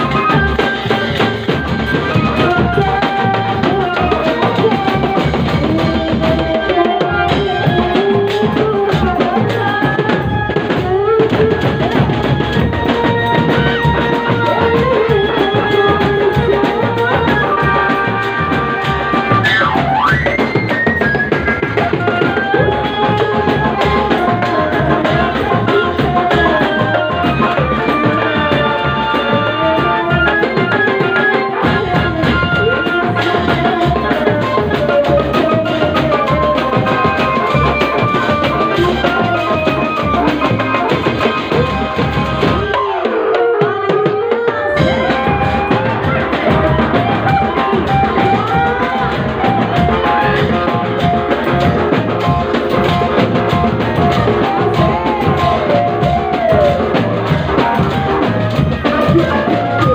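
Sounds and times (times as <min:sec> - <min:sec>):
steady drum beat: 0:00.0 - 0:59.9
woman singing into microphone: 0:00.0 - 0:59.9.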